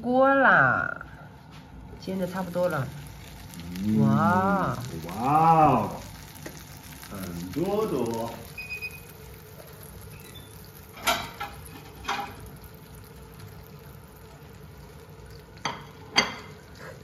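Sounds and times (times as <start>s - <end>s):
pan sizzling faintly: 1.2s - 17.0s.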